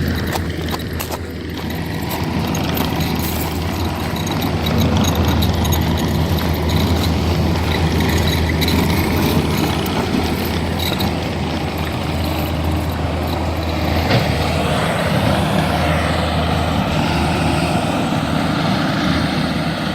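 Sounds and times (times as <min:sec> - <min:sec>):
clanks and rattles: 0:00.0 - 0:16.0
skid steer engine running: 0:00.0 - 0:19.9.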